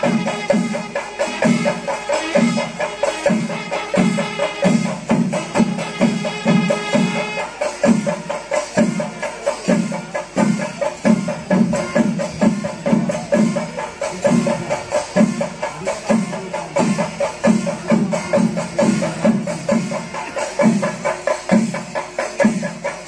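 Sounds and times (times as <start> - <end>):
drums beaten in steady rhythm: 0.0 - 23.0
sharp stick and cymbal strokes: 0.0 - 23.0.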